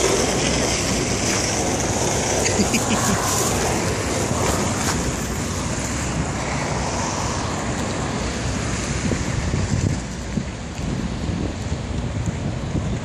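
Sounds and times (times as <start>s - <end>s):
outdoor rushing noise: 0.0s - 13.0s
wind buffeting microphone: 0.0s - 13.0s.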